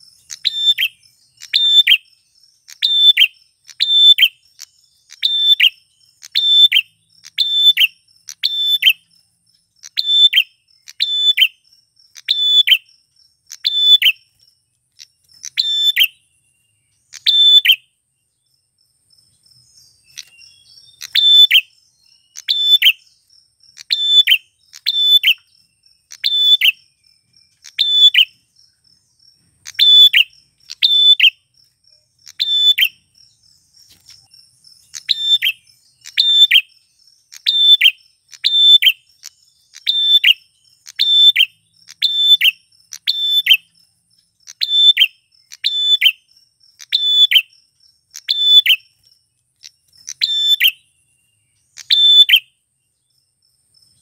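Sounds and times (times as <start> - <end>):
faint insect-like buzz: 0.0 - 54.0.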